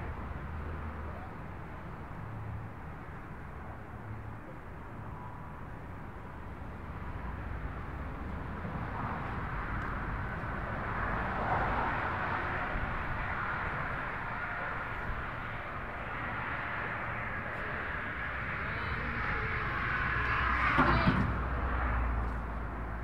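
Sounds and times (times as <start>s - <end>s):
broad outdoor rush: 0.0s - 23.0s.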